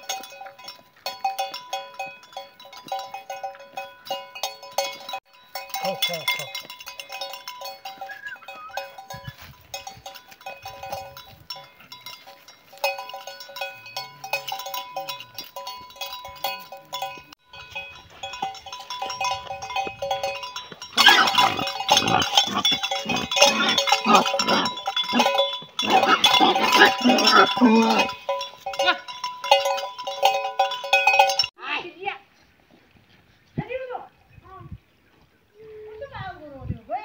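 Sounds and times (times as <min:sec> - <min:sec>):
sheep bells ringing: 0:00.0 - 0:31.7.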